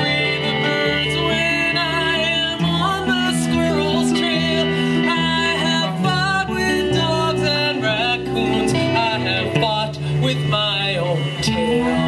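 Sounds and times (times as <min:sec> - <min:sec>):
electric bass guitar: 0:00.0 - 0:12.0
electric guitar: 0:00.0 - 0:12.0
woman singing: 0:00.0 - 0:12.0.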